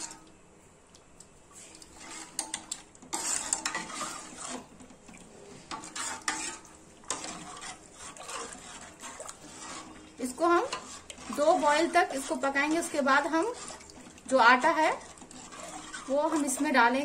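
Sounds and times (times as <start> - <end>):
metal spoon stirring in a pot: 0.0 - 0.4, 1.6 - 17.0.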